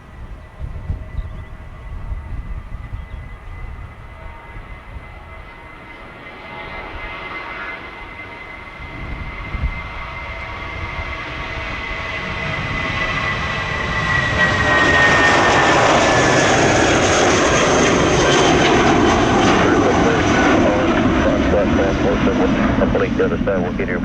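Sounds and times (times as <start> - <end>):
jet airliner engines: 0.0 - 24.0.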